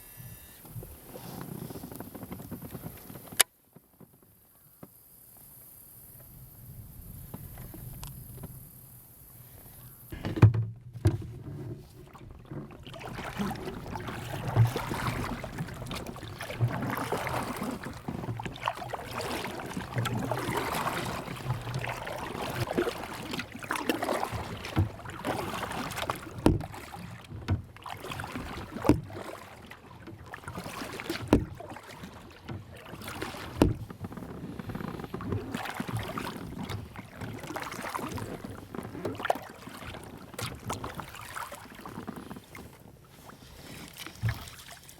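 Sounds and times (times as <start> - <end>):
paddle strokes splashing water: 0.6 - 5.0, 6.1 - 44.9.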